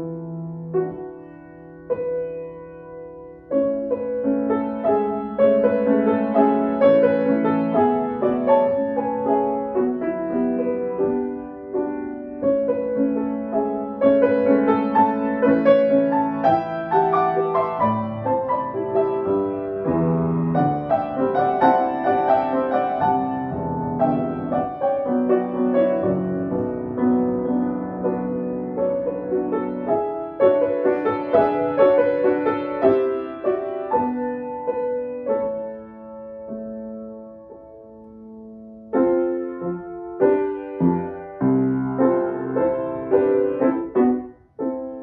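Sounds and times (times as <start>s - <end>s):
solo piano ragtime: 0.0s - 45.0s.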